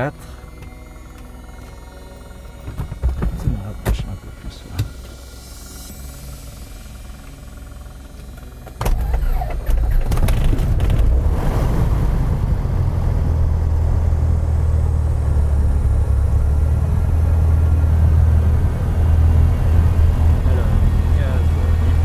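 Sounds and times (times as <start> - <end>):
aircraft engine starting and idling: 0.0 - 22.0.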